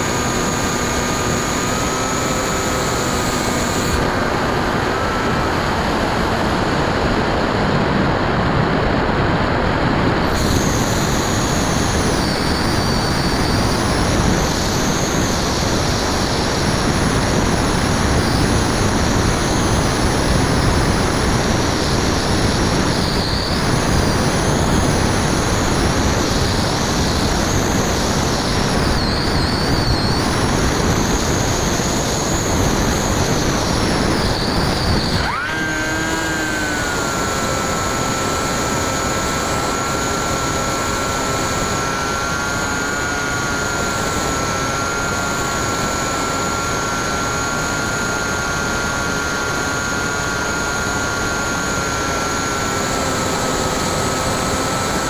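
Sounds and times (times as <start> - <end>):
high wavering whine: 0.0 - 55.0
wind and propeller noise: 0.0 - 55.0.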